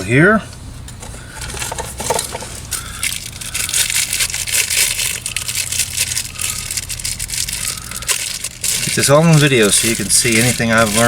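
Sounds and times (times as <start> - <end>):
plastic crackling and clicking: 1.4 - 11.0.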